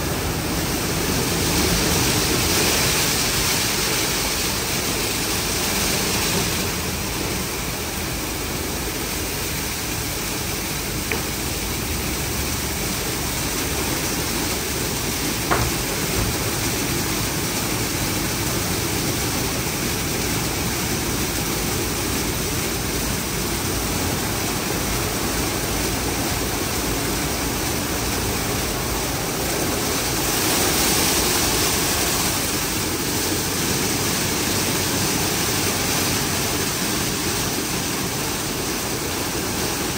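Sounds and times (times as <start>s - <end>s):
car wash water spray: 0.0s - 39.9s.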